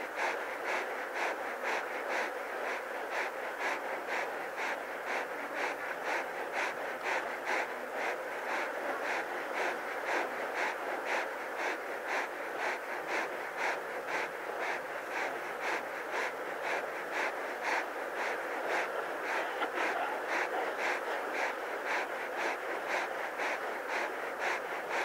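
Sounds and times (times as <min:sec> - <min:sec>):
lion panting rapidly: 0:00.0 - 0:25.0.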